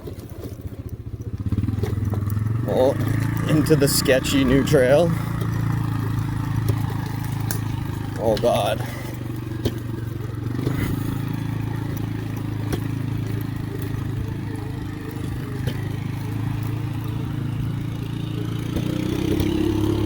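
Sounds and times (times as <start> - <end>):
bike knocking and clattering: 0.0 - 20.0.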